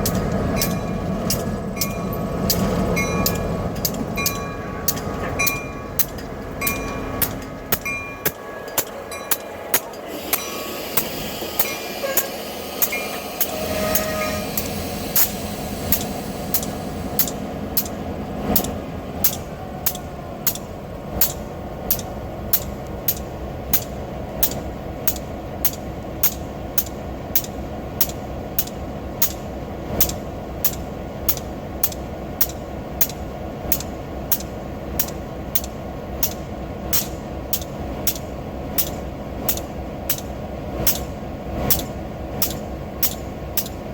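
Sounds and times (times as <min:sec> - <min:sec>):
freight train rumble: 0:00.0 - 0:43.9
wheels clicking over rail joints: 0:00.0 - 0:43.9.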